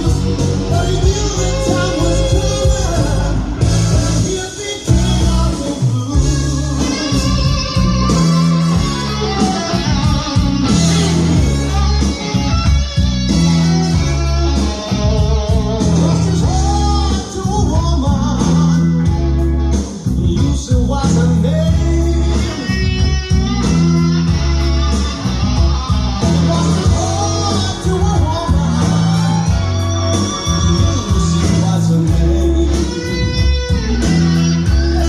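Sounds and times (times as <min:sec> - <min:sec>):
guitar-led rock music: 0:00.0 - 0:35.0
person singing: 0:00.0 - 0:35.0.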